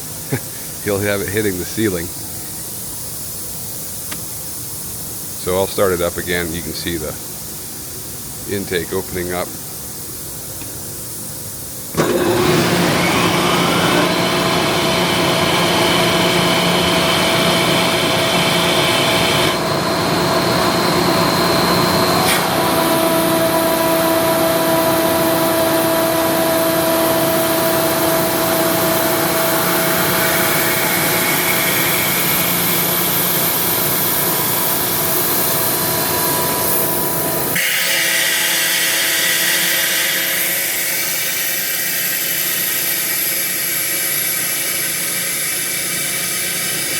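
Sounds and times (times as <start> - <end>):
air compressor whirring: 0.0 - 46.9.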